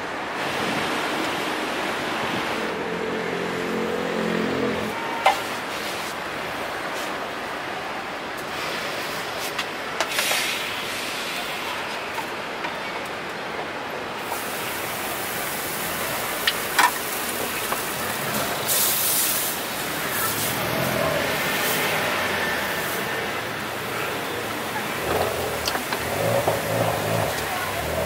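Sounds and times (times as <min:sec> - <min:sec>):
street noise: 0:00.0 - 0:28.0.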